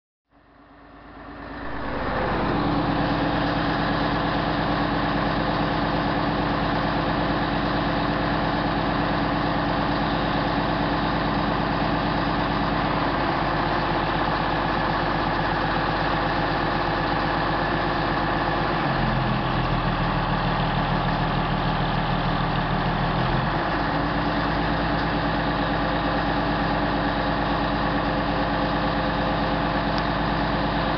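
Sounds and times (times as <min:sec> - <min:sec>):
truck engine running: 0:00.4 - 0:30.9.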